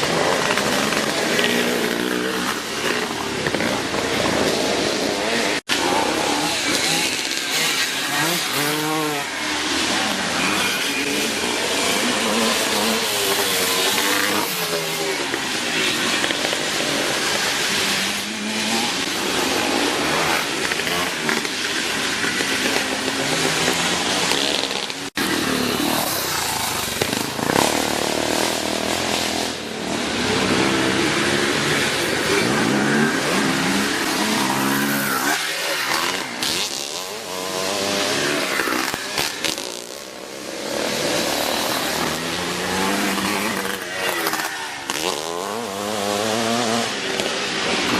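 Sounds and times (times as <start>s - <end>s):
motocross motorcycles revving: 0.0s - 47.9s.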